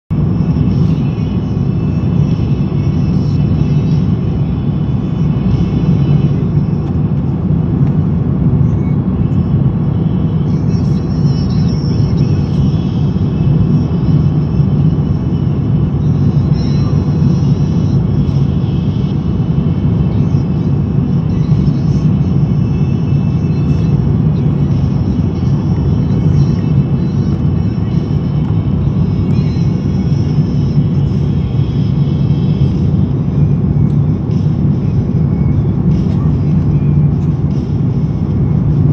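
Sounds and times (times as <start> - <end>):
airplane cabin roar: 0.1 - 38.9.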